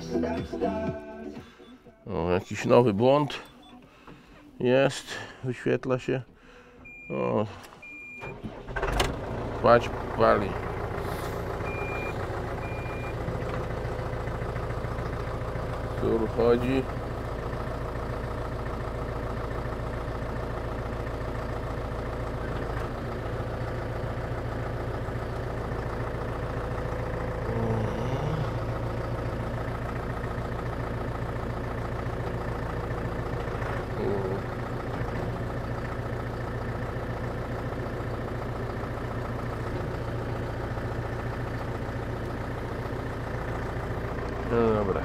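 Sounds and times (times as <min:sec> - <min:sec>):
tractor diesel engine idling: 0:00.0 - 0:45.0.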